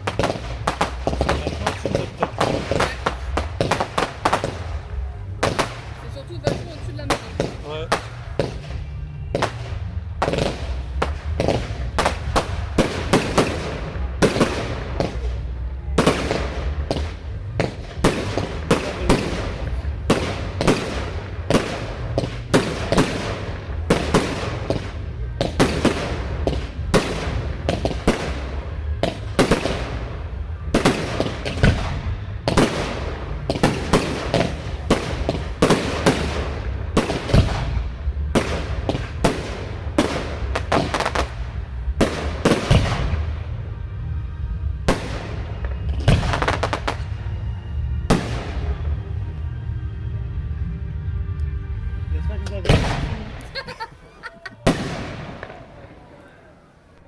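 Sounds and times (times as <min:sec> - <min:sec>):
fireworks bursting and crackling: 0:00.0 - 0:49.5, 0:51.9 - 0:57.0
music playing: 0:00.0 - 0:56.2.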